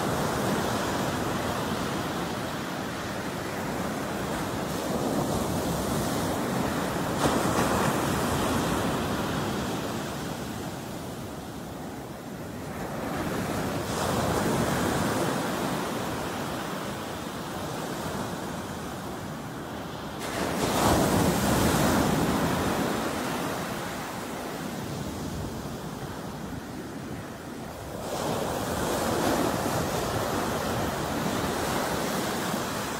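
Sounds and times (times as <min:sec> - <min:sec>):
ocean surf breaking on shore: 0:00.0 - 0:32.9.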